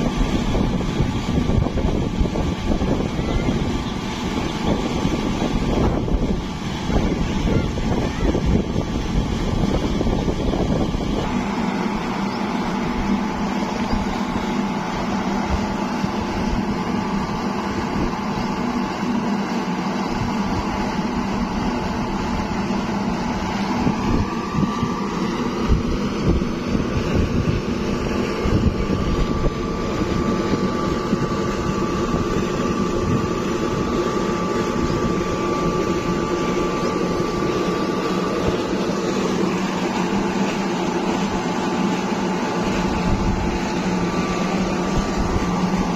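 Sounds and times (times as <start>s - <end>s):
electric motor hum: 0.0s - 45.9s
pump whine: 0.0s - 45.9s.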